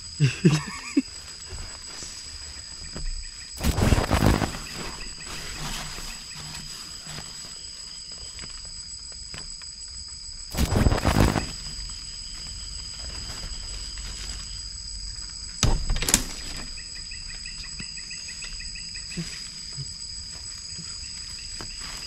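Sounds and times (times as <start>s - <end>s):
night insects chorus: 0.0s - 22.0s.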